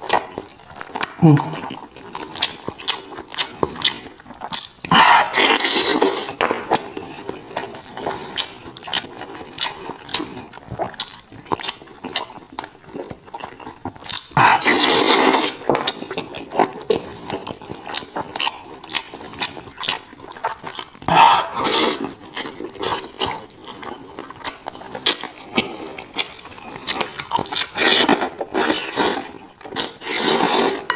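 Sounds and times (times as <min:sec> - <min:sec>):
person chewing food: 0:00.0 - 0:30.9.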